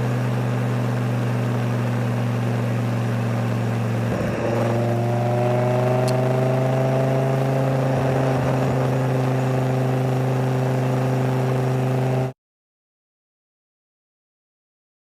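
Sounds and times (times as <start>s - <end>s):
car engine running: 0.0s - 12.3s.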